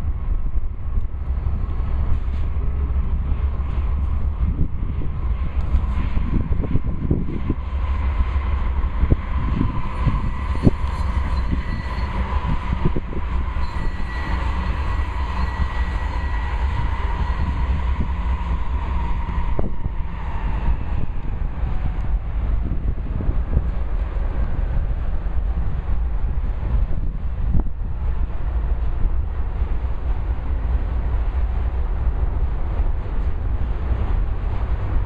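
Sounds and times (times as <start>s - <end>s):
diesel locomotive engine rumble: 0.0s - 35.0s
steady whine: 0.0s - 35.0s.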